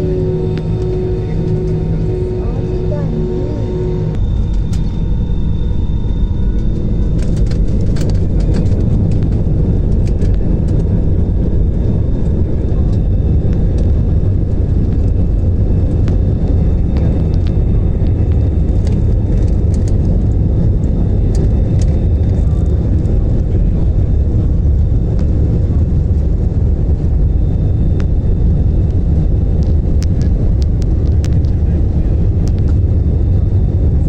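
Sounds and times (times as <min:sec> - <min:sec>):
airplane engines rumbling: 0:00.0 - 0:34.0.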